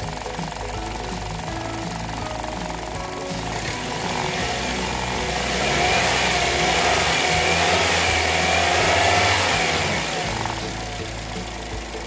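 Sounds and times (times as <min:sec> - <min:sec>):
background music: 0:00.0 - 0:12.0
car engine idling: 0:00.0 - 0:12.0.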